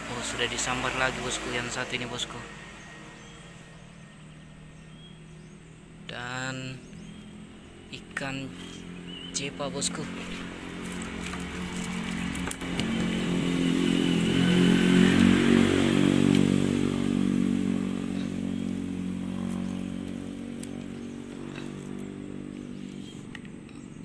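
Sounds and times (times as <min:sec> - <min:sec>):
small engine passing by: 0:00.0 - 0:06.0, 0:06.8 - 0:24.0.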